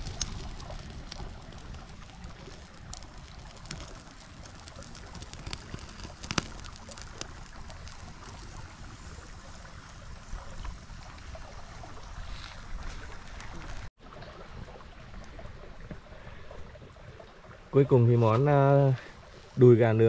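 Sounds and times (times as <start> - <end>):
stream running: 0.0 - 20.0.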